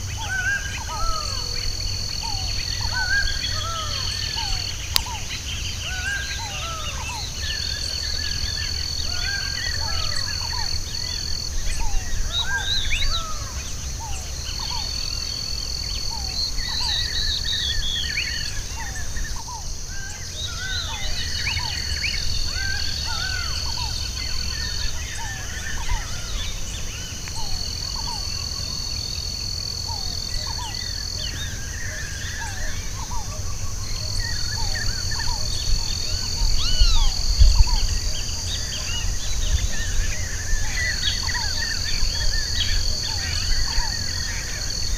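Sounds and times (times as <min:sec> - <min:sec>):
birds chirping and whistling: 0:00.0 - 0:44.9
high insect drone: 0:00.0 - 0:44.9
shrill insect trill: 0:00.0 - 0:44.9.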